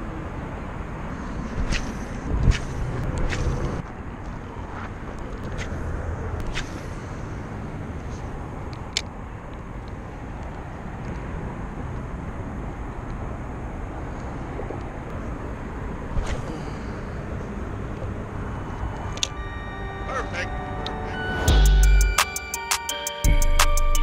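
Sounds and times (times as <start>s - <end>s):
freeway traffic noise: 0.0s - 24.0s.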